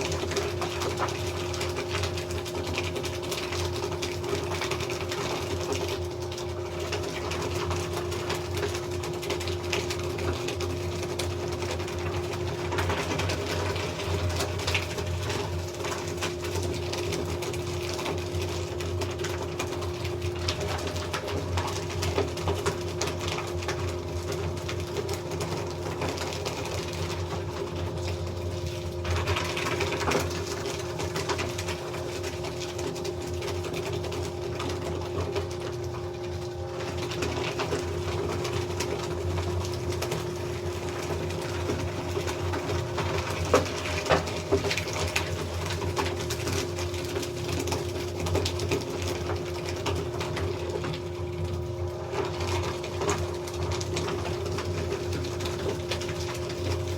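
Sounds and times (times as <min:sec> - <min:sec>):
paper shredder motor hum: 0:00.0 - 0:56.9.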